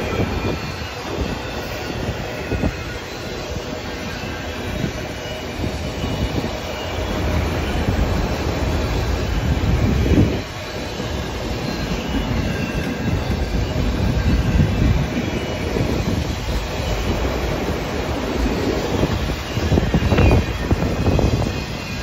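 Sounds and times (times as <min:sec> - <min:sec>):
faint wheel squeal: 0:00.0 - 0:22.0
freight train wheels rumbling: 0:00.0 - 0:22.0.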